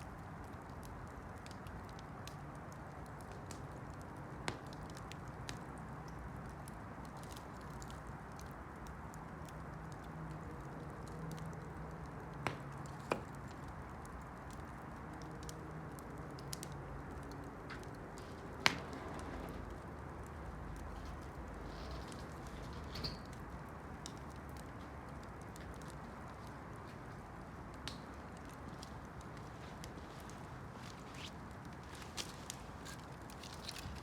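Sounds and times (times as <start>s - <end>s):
campfire burning: 0.0s - 34.0s
crackling pops of burning wood: 0.0s - 34.0s.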